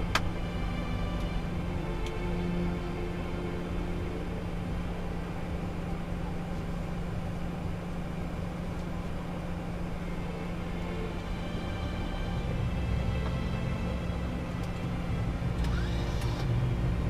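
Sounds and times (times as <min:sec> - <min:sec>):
airliner cockpit engine hum: 0:00.0 - 0:17.0.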